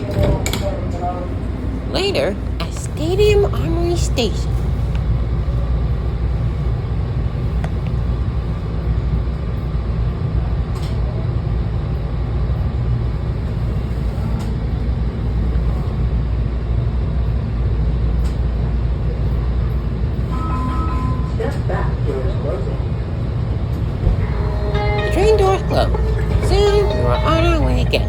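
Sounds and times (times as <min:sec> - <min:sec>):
railcar equipment rumble: 0:00.0 - 0:28.0.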